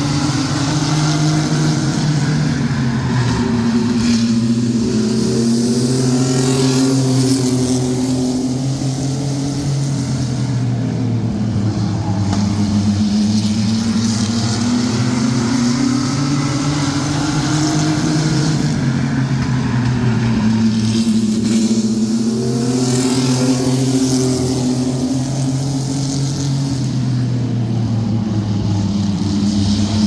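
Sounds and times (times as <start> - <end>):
race truck engines running hard: 0.0 - 30.0.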